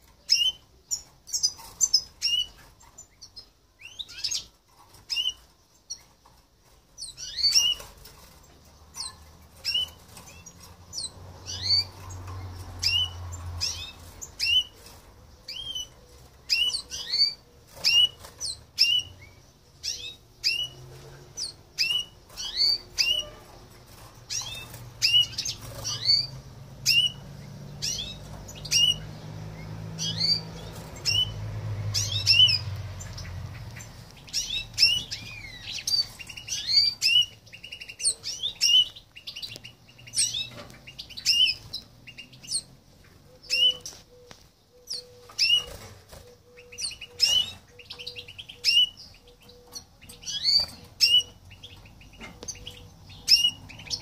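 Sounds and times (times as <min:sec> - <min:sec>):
fledgling bird chirping: 0:00.0 - 0:54.0.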